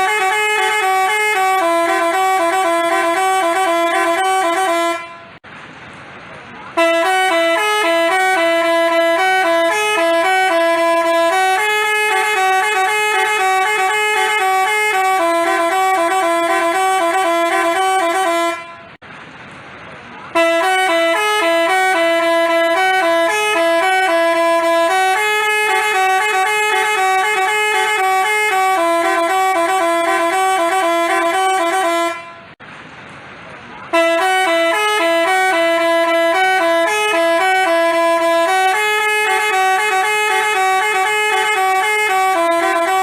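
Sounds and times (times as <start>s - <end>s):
multi-tone bus horn melody: 0.0s - 5.4s, 6.7s - 19.0s, 20.2s - 32.6s, 33.9s - 43.0s.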